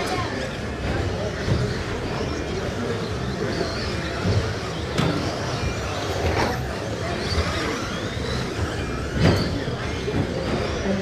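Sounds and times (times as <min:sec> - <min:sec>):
toy truck motors and tyres: 0:00.0 - 0:11.0
motor whines: 0:00.1 - 0:11.0.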